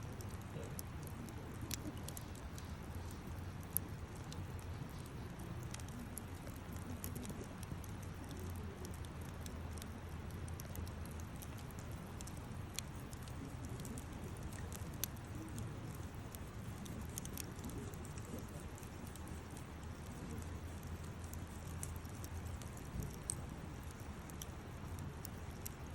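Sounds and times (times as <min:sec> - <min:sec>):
campfire crackles and pops: 0:00.0 - 0:25.9
low steady rumble: 0:00.0 - 0:25.9.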